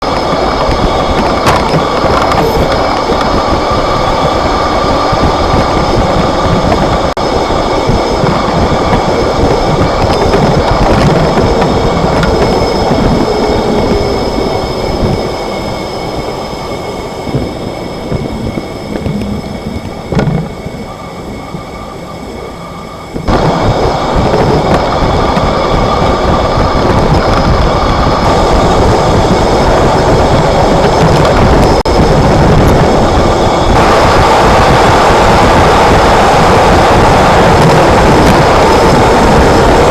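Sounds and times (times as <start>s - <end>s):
road and driveline rumble: 0.0s - 39.9s.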